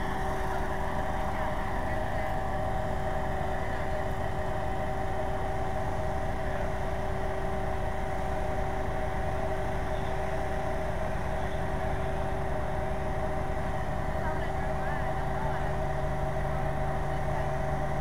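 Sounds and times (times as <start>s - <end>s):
fire truck engine running: 0.0s - 18.0s.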